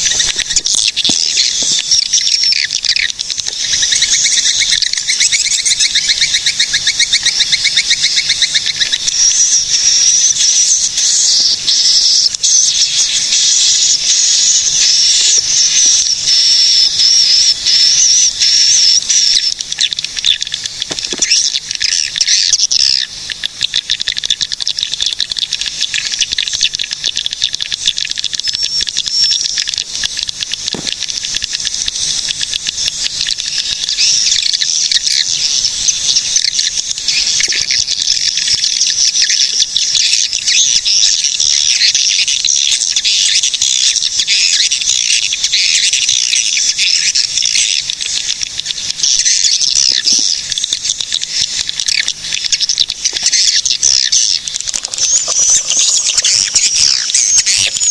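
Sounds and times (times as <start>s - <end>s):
swiftlets chattering chirps: 0.0s - 57.9s.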